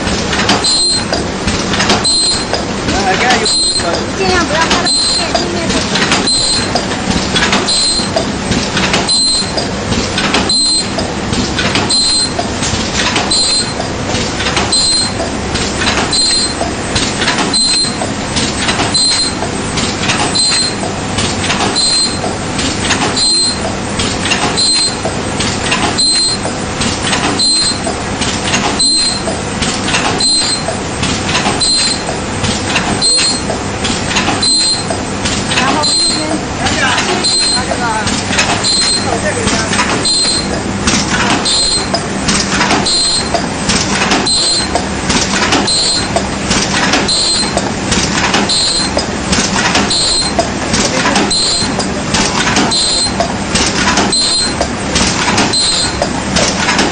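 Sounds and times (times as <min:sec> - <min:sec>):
machine clattering: 0:00.0 - 0:56.9.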